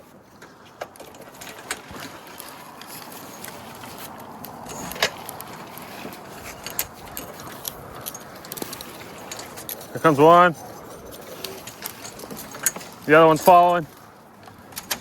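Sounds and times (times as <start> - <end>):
steady background noise: 0.0 - 15.0
metal rigging hardware clinking: 0.9 - 14.1.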